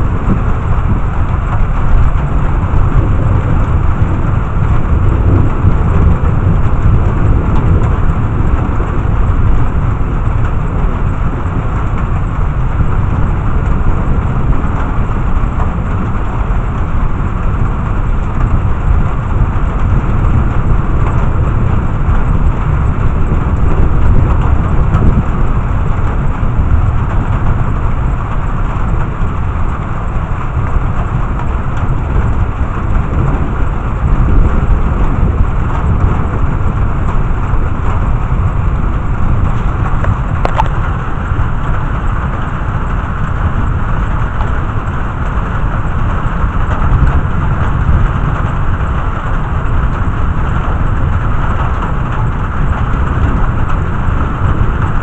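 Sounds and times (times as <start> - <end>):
heavy rain: 0.0 - 55.0
low thunder rumble: 0.0 - 55.0.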